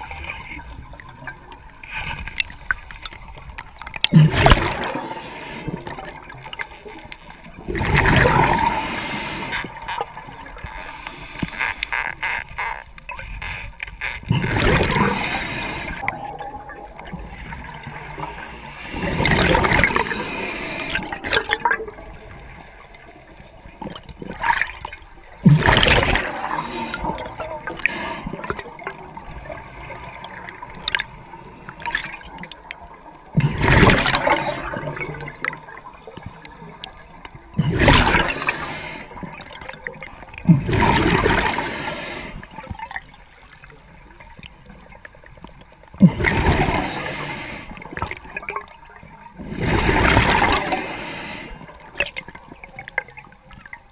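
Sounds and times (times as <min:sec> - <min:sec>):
water noise: 0:00.0 - 0:53.9
bubbles gurgling from regulator: 0:03.9 - 0:06.8, 0:07.5 - 0:12.1, 0:14.3 - 0:23.0, 0:23.8 - 0:43.2, 0:46.0 - 0:53.9.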